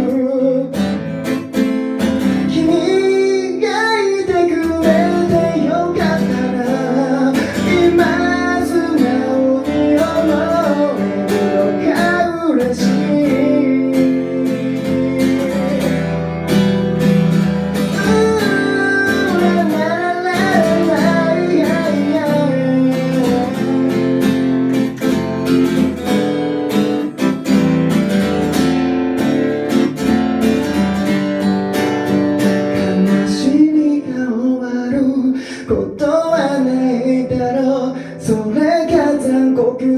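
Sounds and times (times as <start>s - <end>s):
person singing: 0.0s - 25.8s, 30.5s - 39.9s
acoustic guitar strumming: 0.0s - 39.9s.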